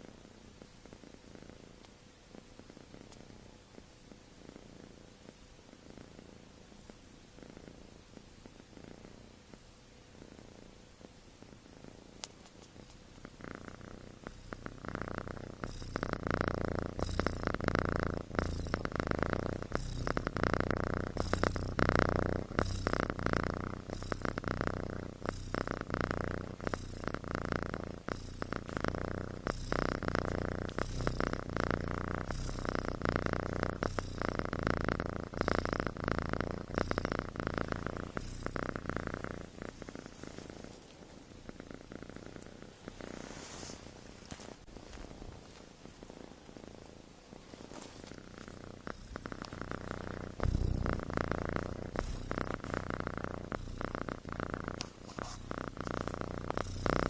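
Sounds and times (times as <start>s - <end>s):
kitten snoring: 0.0s - 57.0s.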